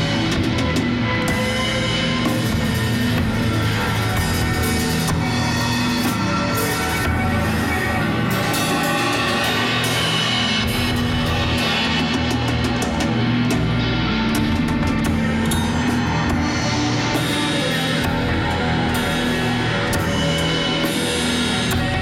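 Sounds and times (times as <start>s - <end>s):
drums and cymbals: 0.0s - 22.0s.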